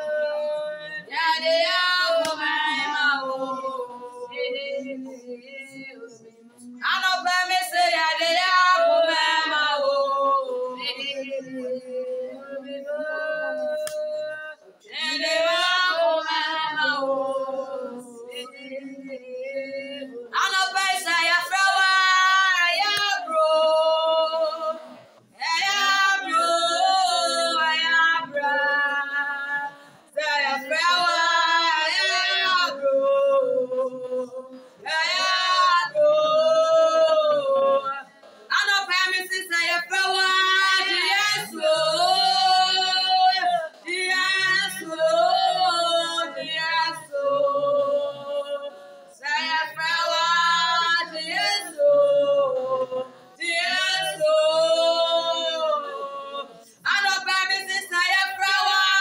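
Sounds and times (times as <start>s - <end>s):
women singing unaccompanied: 0.0s - 59.0s.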